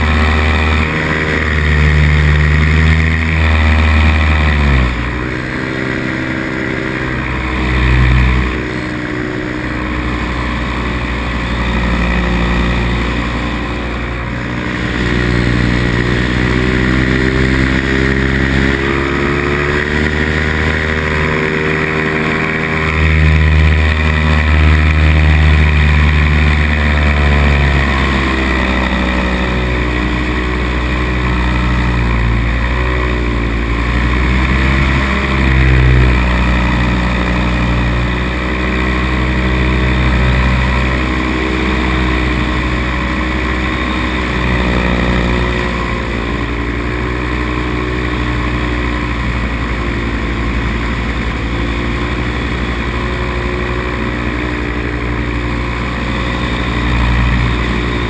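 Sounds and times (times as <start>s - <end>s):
two-stroke engine running: 0.0s - 58.0s.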